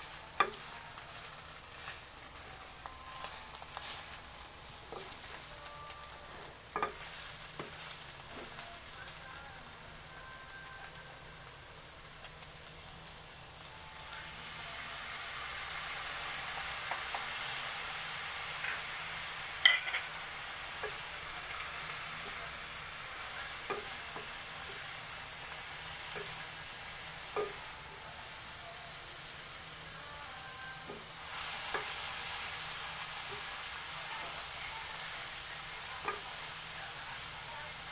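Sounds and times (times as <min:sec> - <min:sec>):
chicken sizzling in a pan: 0:00.0 - 0:37.9.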